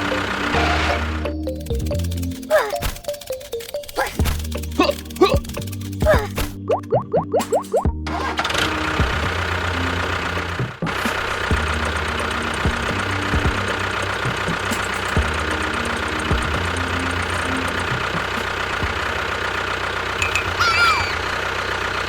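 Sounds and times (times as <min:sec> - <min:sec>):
small motor humming: 0:00.0 - 0:06.5, 0:08.2 - 0:22.0.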